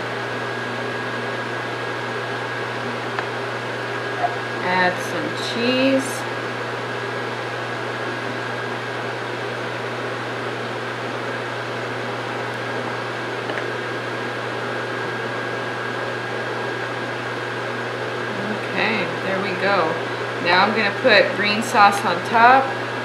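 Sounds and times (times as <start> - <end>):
room hum and hiss: 0.0 - 23.0.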